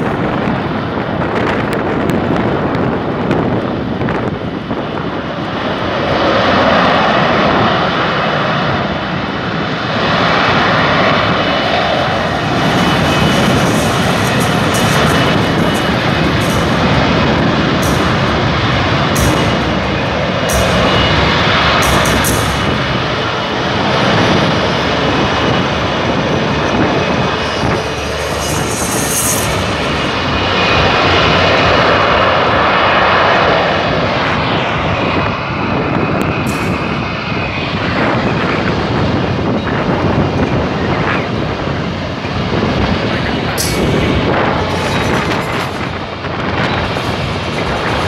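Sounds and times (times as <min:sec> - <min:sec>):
jet engine roar with whine: 0:00.0 - 0:48.0.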